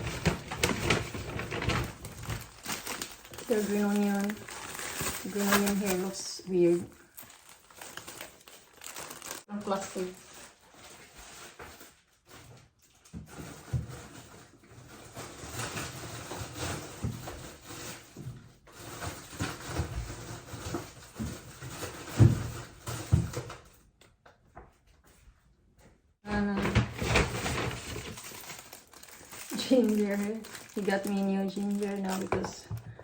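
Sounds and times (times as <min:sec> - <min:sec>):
plastic bags rustling: 0:00.0 - 0:23.4, 0:26.3 - 0:33.0.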